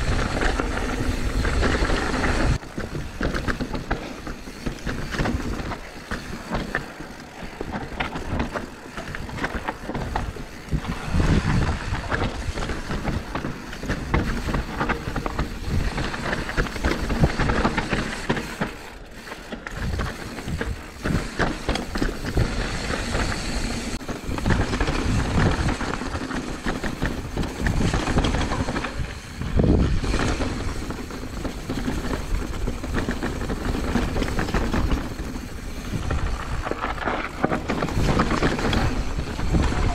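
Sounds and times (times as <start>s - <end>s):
bike rattling and knocking: 0.0s - 39.9s
tyres rumbling over stones: 0.0s - 39.9s.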